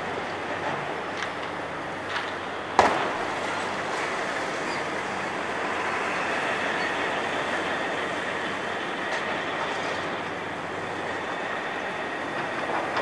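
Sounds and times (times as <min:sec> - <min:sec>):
crawler crane rumbling: 0:00.0 - 0:13.0.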